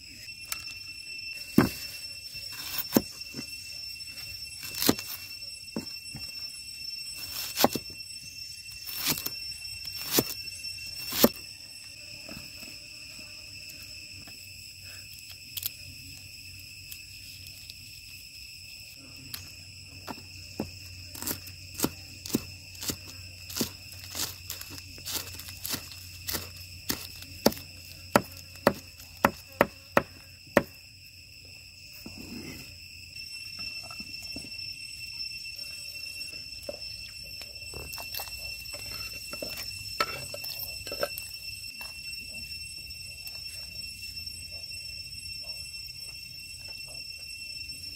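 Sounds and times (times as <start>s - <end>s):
high-pitched whine: 0.0s - 47.9s.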